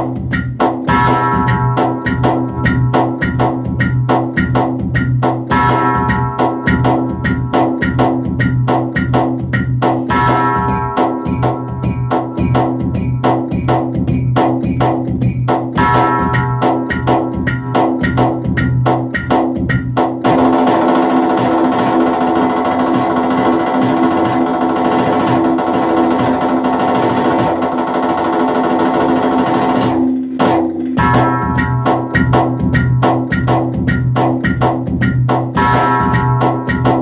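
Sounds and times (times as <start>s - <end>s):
music with sustained tones: 0.0s - 27.6s, 28.7s - 37.0s
electronic drum pad struck with sticks: 0.0s - 37.0s.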